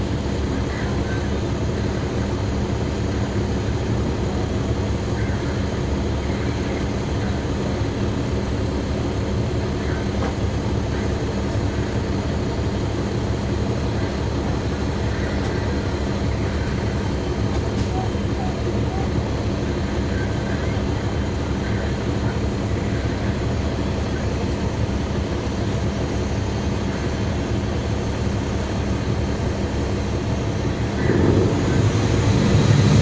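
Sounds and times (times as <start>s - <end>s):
bus cabin noise: 0.0s - 33.0s
bus diesel engine drone: 0.0s - 33.0s.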